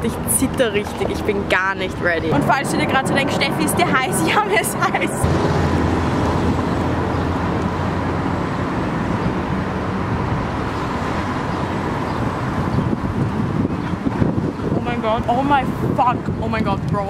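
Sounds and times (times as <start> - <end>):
vehicle engine rumbling: 0.0 - 16.6.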